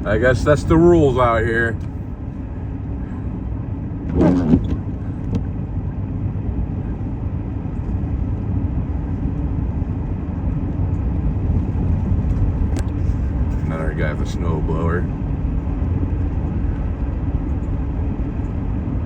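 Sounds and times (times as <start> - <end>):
truck engine and tyres rumbling: 0.0 - 19.0.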